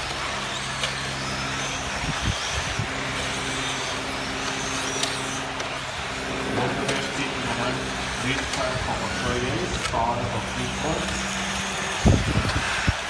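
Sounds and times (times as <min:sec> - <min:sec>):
electric motors whining: 0:00.0 - 0:13.0
steady low hum: 0:00.0 - 0:13.0.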